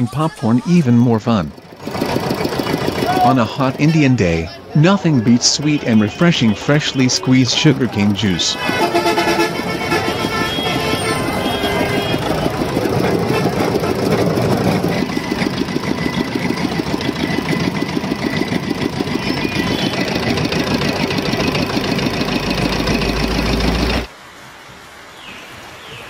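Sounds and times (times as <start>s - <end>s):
diesel engine knocking: 0.0s - 24.1s.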